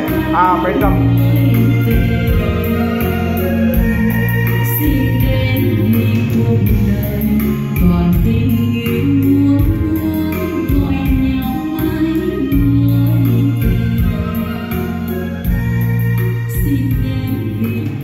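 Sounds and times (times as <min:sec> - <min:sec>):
song played through loudspeakers: 0:00.0 - 0:18.0.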